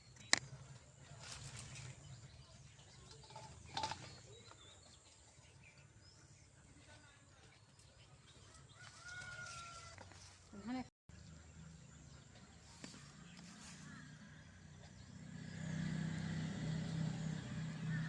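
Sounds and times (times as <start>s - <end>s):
distant bird chirps: 0.0s - 18.0s.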